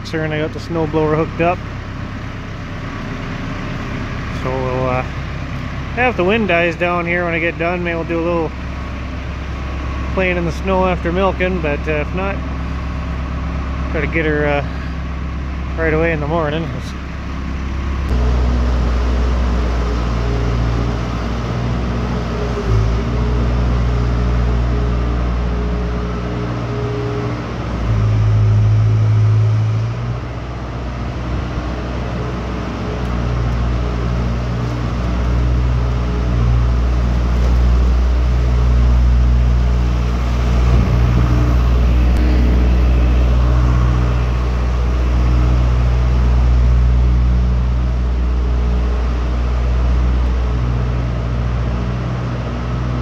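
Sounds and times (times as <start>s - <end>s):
farm machine engine running: 0.0s - 53.0s.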